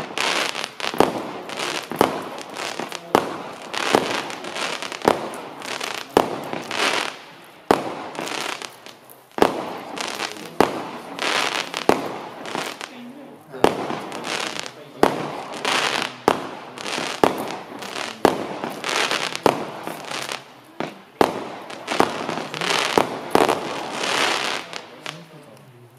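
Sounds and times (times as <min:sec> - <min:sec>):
firework bangs: 0:00.0 - 0:25.6
crackling hiss of fireworks: 0:00.0 - 0:25.9.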